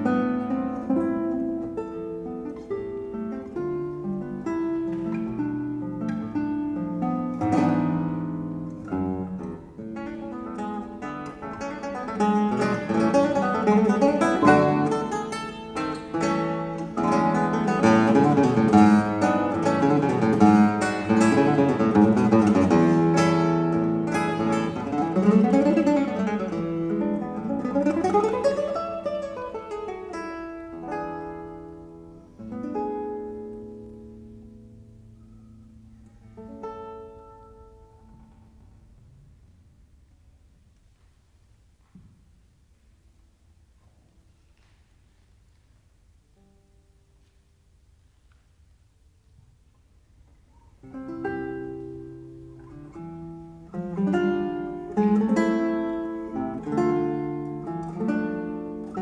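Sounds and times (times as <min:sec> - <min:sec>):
classical guitar playing: 0:00.0 - 0:48.4, 0:49.3 - 0:59.0.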